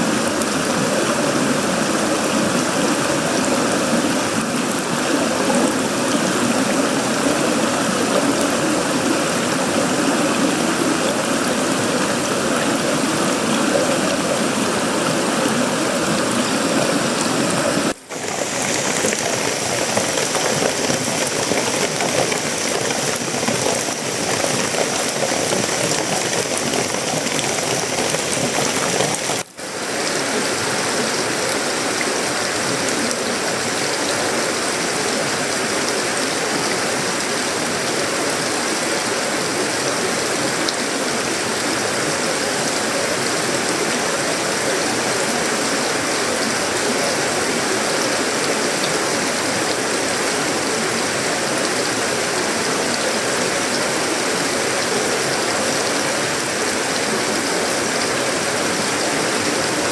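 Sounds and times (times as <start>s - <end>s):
heavy rain on a metal roof: 0.0s - 59.9s.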